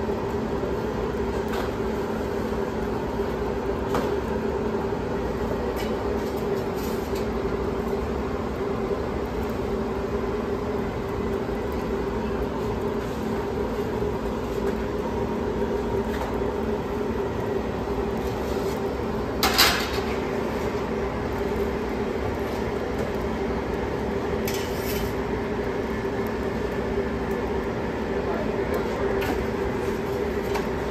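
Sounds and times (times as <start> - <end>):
steady mechanical hum: 0.0 - 30.9.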